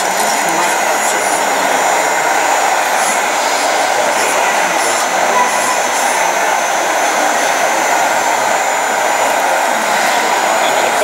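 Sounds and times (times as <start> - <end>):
electric pump whirring hiss: 0.0 - 11.0
faint high whine: 0.0 - 11.0.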